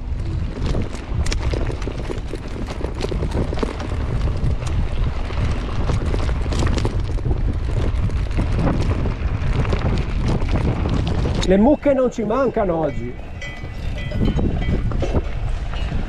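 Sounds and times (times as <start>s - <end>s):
low rumble of bike rolling: 0.0s - 16.0s
wind buffeting microphone: 0.0s - 16.0s
tyres striking stones and bike rattling: 0.1s - 16.0s.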